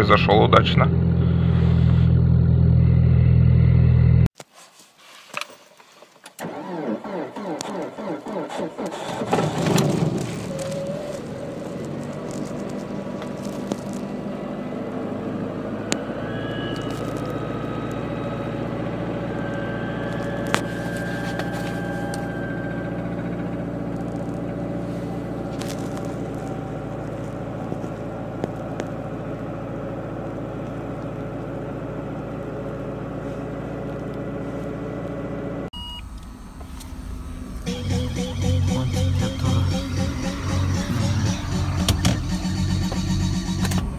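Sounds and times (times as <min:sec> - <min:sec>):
car engine fast idling: 0:06.4 - 0:35.6, 0:36.6 - 0:43.9.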